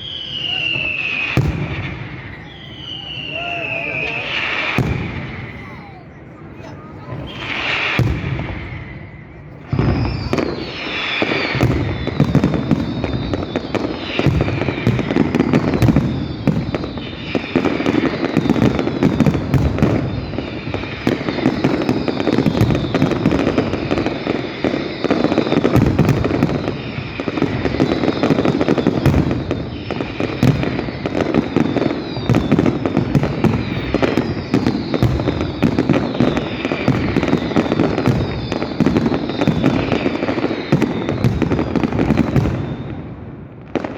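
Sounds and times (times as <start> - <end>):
fireworks bangs and crackling: 0.0 - 43.9
fireworks whistling: 0.0 - 43.9.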